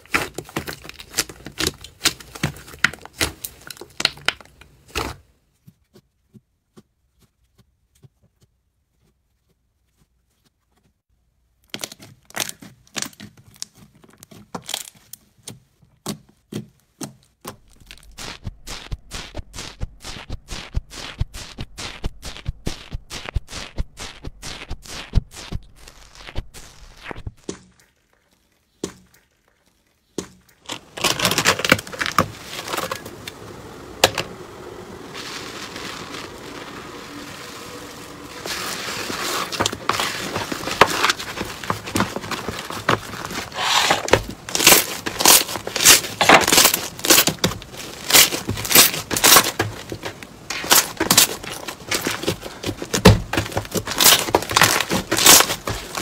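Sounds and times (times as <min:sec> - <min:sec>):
slime crackling and popping: 0:00.0 - 0:05.1, 0:11.6 - 0:15.2, 0:17.6 - 0:56.0
slime stretched and kneaded: 0:00.0 - 0:08.2, 0:11.6 - 0:56.0.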